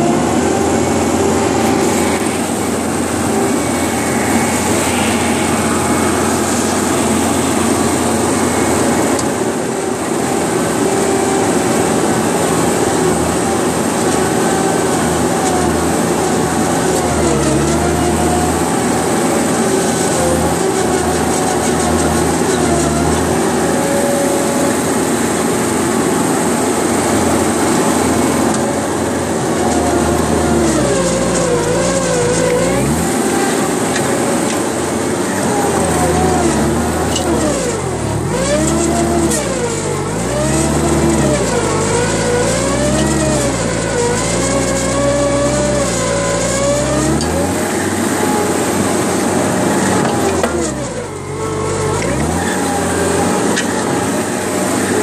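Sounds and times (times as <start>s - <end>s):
earthmoving machine engine: 0.0s - 55.0s.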